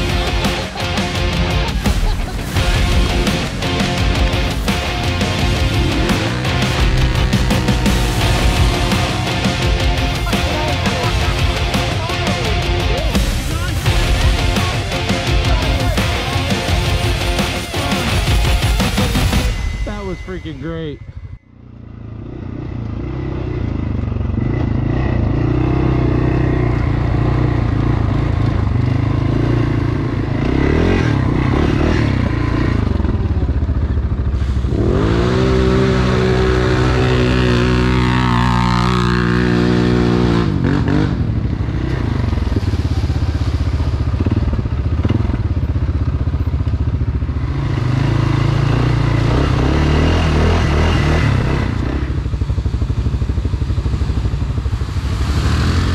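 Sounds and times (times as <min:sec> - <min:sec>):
atv engine revving: 0:00.0 - 0:20.6, 0:21.2 - 0:55.9.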